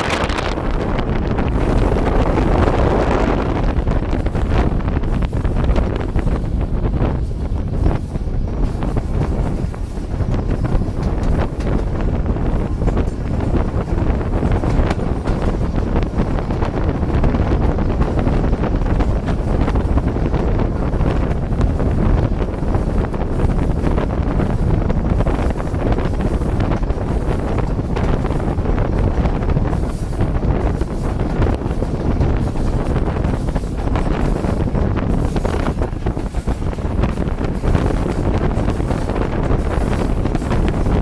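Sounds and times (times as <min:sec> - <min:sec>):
passing train rumble: 0:00.0 - 0:41.0
wind buffeting microphone: 0:00.0 - 0:41.0.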